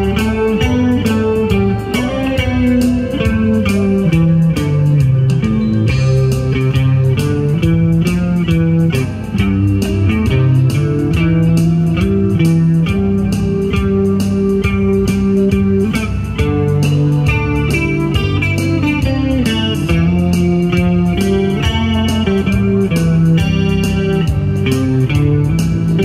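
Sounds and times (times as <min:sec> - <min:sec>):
low bass line: 0:00.0 - 0:26.0
plucked guitar melody: 0:00.0 - 0:26.0.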